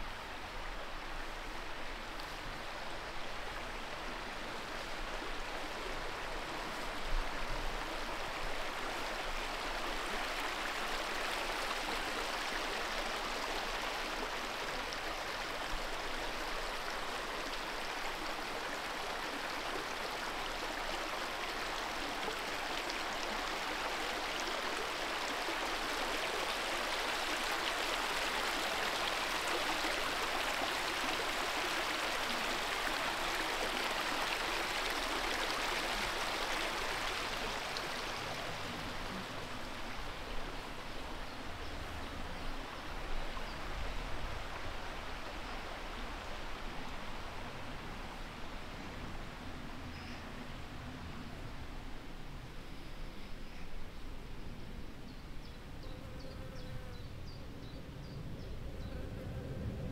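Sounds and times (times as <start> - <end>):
river flowing: 0.0 - 55.8.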